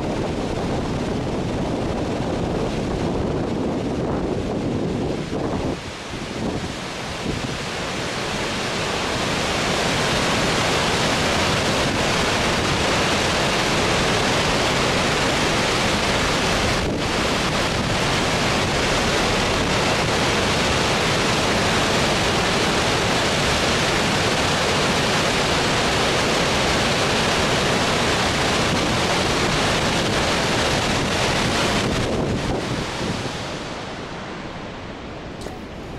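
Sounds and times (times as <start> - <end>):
fast river rushing: 0.0 - 35.9.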